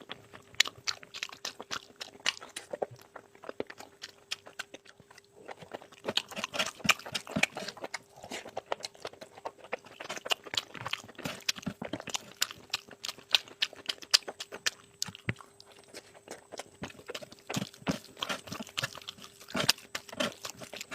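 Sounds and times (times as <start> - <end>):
chewing food: 0.0 - 20.9.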